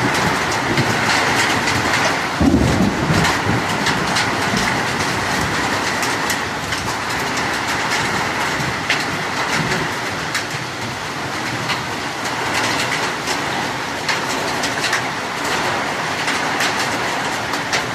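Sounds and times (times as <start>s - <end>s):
rain falling: 0.0s - 17.9s
raindrops ticking: 0.0s - 17.9s.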